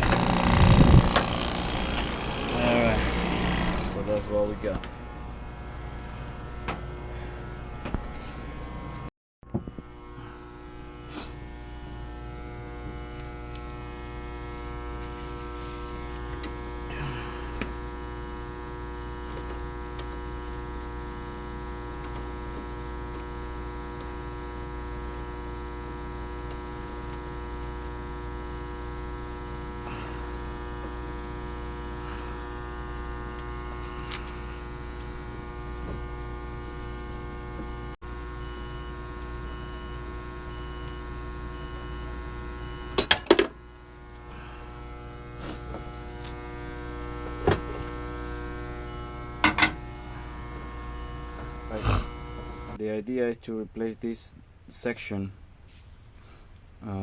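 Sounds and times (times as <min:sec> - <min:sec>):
steady machinery hum: 0:00.0 - 0:57.0.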